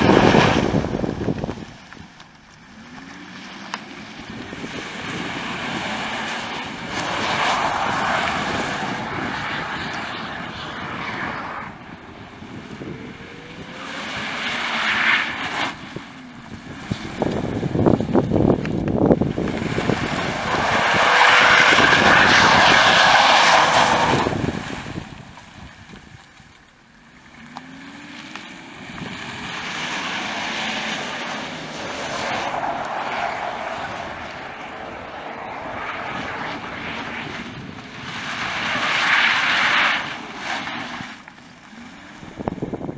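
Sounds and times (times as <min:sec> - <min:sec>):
car engine revving: 0:00.0 - 0:25.8, 0:26.5 - 0:42.9.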